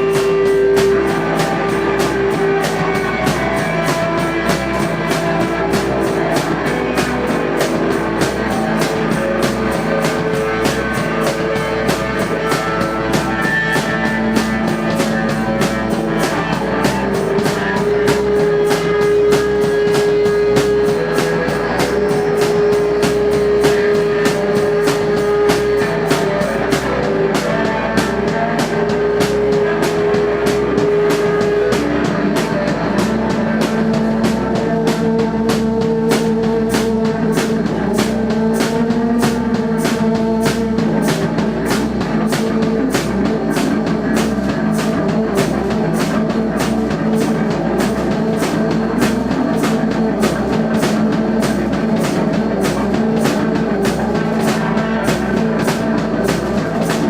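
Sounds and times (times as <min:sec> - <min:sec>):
fast drum beat: 0:00.0 - 0:57.0
live rock band playing: 0:00.0 - 0:57.0.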